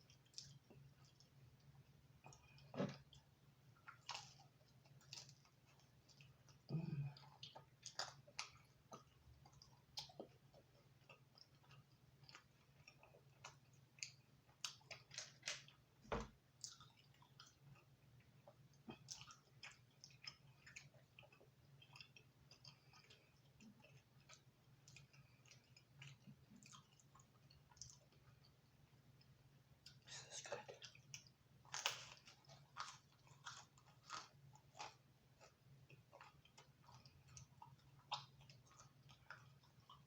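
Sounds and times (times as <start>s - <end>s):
chewing crispy pizza crust: 0.0s - 40.0s
faint steady hum: 0.0s - 40.0s.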